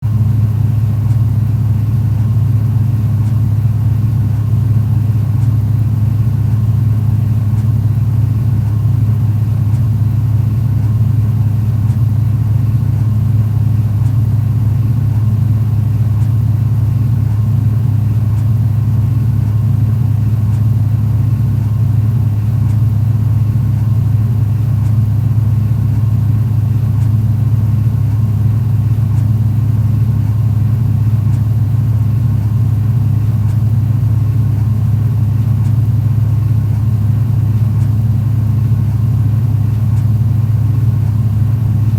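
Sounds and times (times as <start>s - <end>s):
truck engine rumble from inside cab: 0.0s - 41.9s.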